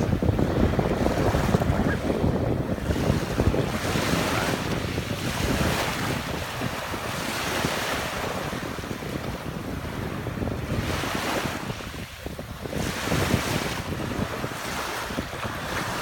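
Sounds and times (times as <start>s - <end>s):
surf on pebble beach: 0.0s - 16.0s
wind buffeting microphone: 0.0s - 16.0s.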